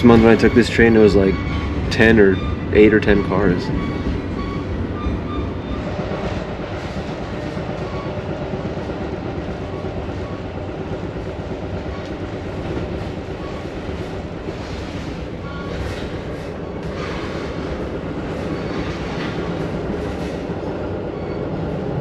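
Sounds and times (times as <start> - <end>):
train car rumbling and rattling: 0.0 - 22.0.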